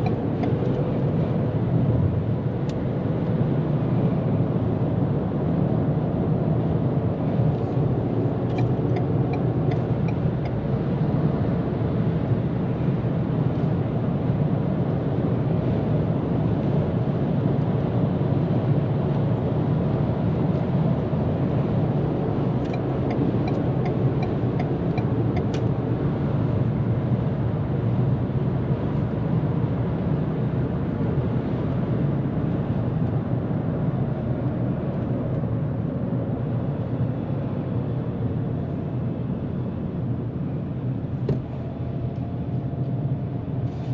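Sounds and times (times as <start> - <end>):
road and wind noise in car: 0.0 - 43.9.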